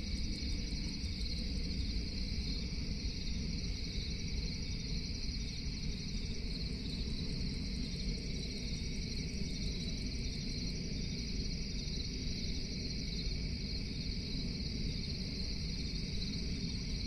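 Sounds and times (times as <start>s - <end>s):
crickets trilling: 0.0s - 17.0s
faint rapid insect ticking: 0.0s - 17.0s.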